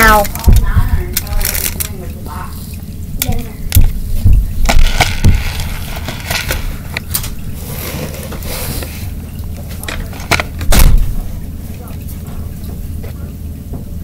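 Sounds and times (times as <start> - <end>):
rustling and scraping: 0.0 - 13.3.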